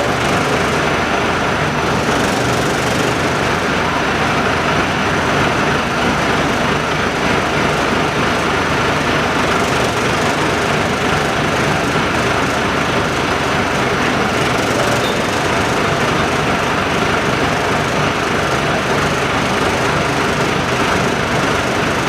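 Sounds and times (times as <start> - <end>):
industrial machinery drone: 0.0 - 22.0.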